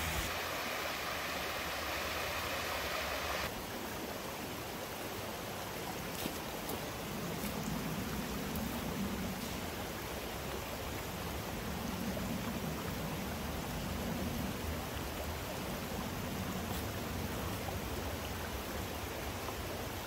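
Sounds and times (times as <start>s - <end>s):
creek water running over rocks: 0.0s - 20.0s.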